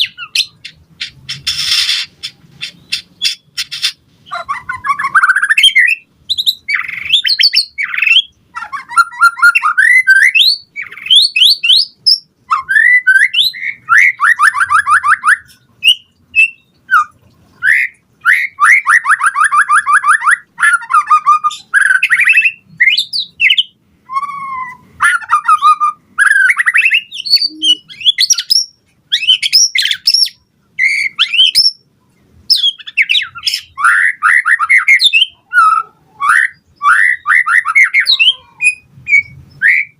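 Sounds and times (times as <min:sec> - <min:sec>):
bird singing whistles and trills: 0:00.0 - 0:31.9, 0:32.5 - 0:39.9.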